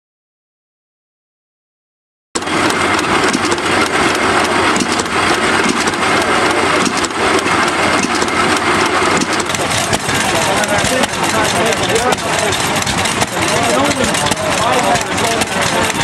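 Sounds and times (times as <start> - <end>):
gas engine running: 2.4 - 16.0.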